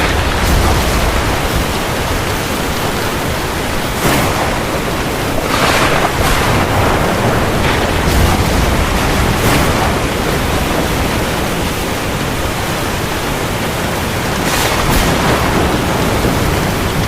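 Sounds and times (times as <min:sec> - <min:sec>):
rain falling on sea: 0:00.0 - 0:17.0.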